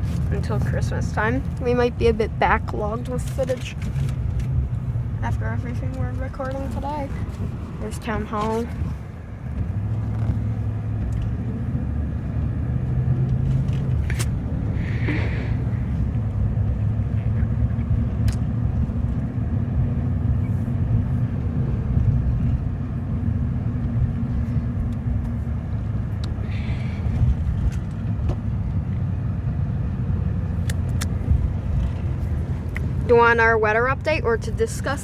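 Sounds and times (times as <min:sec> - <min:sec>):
car engine and tyre noise: 0:00.0 - 0:35.0.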